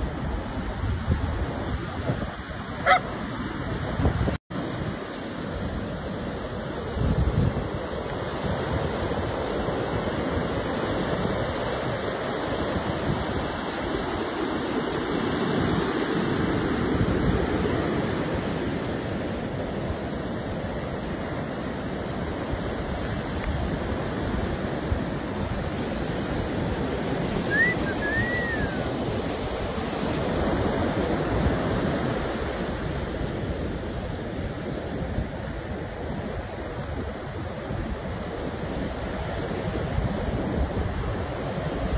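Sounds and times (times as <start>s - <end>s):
ocean surf on beach: 0.0s - 41.9s
wind on microphone: 0.0s - 41.9s.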